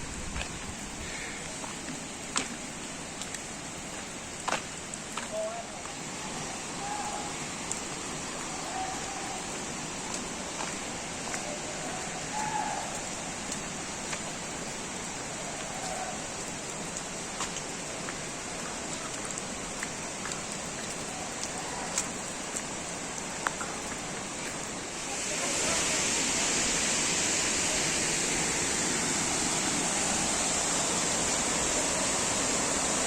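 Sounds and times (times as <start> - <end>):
falling water hissing: 0.0 - 33.0.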